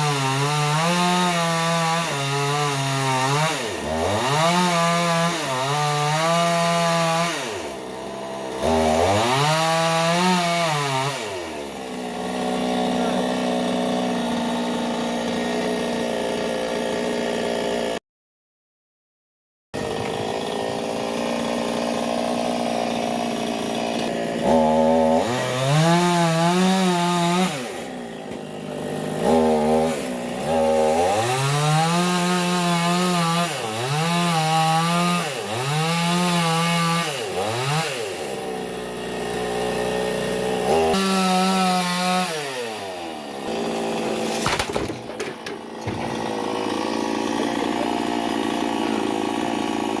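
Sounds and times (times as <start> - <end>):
chainsaw revving: 0.0 - 18.0, 19.8 - 50.0.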